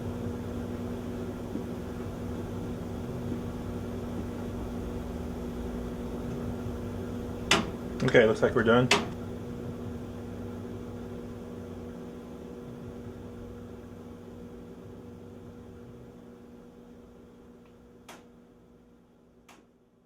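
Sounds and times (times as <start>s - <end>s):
washing machine electrical hum: 0.0s - 20.0s.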